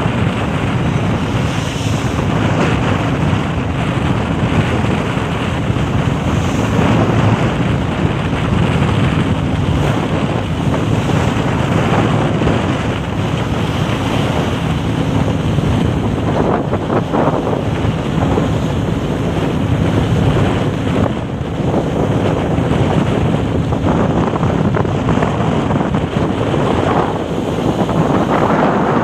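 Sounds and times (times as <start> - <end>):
boat motor drone: 0.0 - 29.0
water rushing past hull: 0.0 - 29.0
wind buffeting microphone: 0.0 - 29.0.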